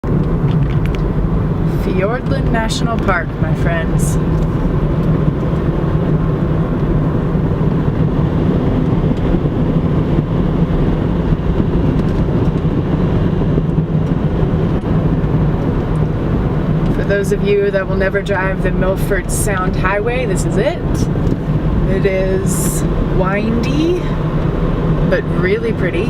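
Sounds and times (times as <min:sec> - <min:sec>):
car driving on highway: 0:00.0 - 0:26.0.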